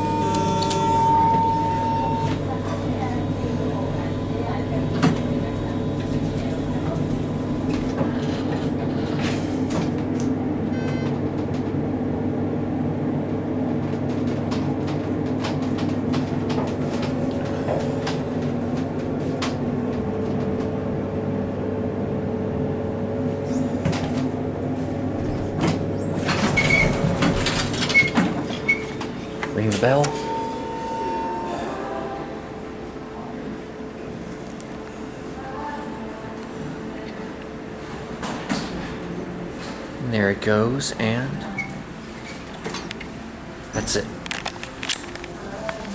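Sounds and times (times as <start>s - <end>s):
elevator humming: 0.0s - 45.9s.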